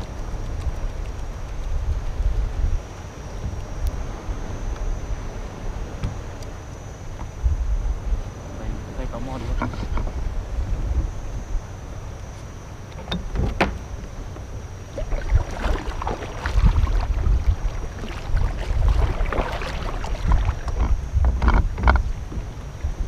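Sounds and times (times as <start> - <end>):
water sloshing against hull: 0.0 - 23.0
wind buffeting microphone: 0.0 - 23.0.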